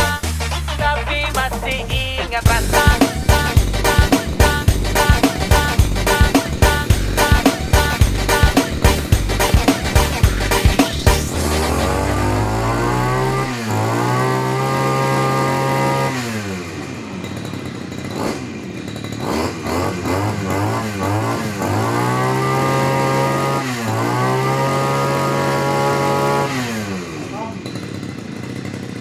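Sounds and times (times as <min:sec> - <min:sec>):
brush cutter engine revving: 0:00.0 - 0:29.0.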